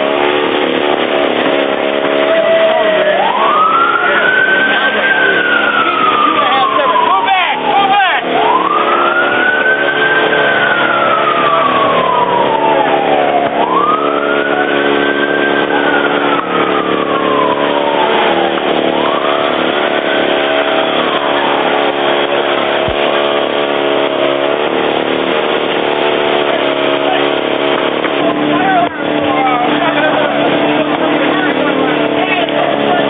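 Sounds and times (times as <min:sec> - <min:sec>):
engine hum: 0:00.0 - 0:33.0
fire engine siren wailing: 0:00.0 - 0:33.0.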